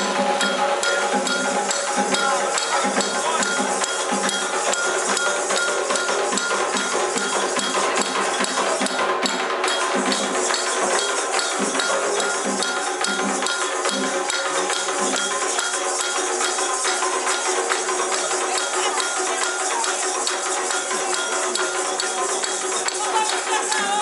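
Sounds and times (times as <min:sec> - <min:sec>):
struck metal bell: 0:00.0 - 0:23.5
hand drums: 0:00.0 - 0:24.0.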